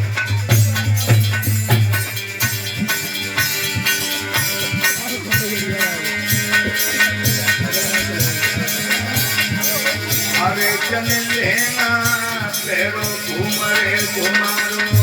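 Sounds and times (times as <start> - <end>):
jingling percussion: 0.0 - 15.0
steady drum beats: 0.0 - 15.0.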